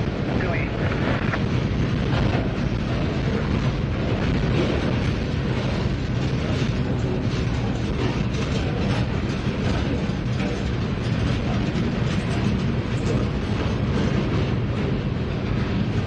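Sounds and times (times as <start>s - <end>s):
train cars clacking and rattling: 0.0s - 16.0s
train wheels rumbling on rails: 0.0s - 16.0s.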